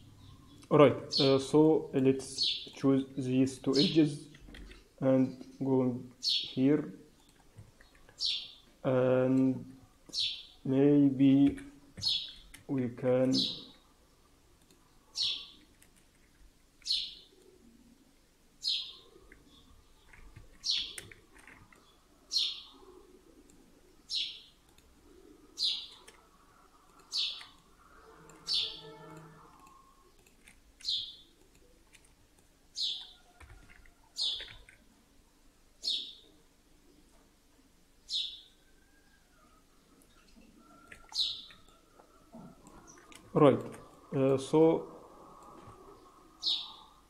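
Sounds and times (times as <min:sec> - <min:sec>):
bird chirping: 0:00.0 - 0:18.0, 0:18.6 - 0:32.0, 0:32.7 - 0:34.9, 0:35.8 - 0:37.2, 0:38.0 - 0:47.0.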